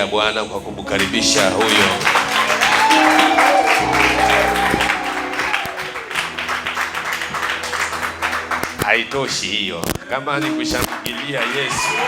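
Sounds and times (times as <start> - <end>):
instrumental church music: 0.0 - 12.0
congregation clapping and cheering: 1.0 - 12.0.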